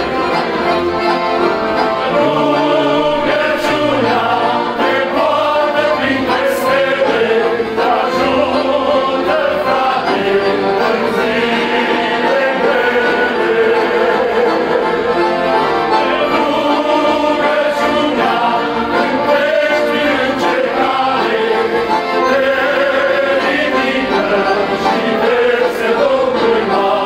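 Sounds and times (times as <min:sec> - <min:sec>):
group of voices singing: 0:00.0 - 0:27.0
piano accordions playing: 0:00.0 - 0:27.0.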